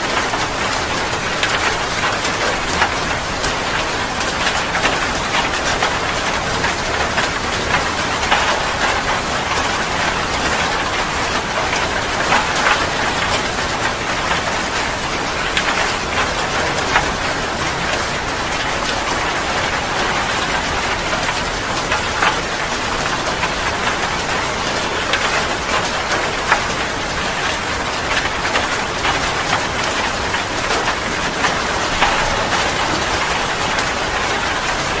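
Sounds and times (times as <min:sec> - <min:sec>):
heavy rain hissing: 0:00.0 - 0:35.0
raindrops splashing on hard surface: 0:00.0 - 0:35.0.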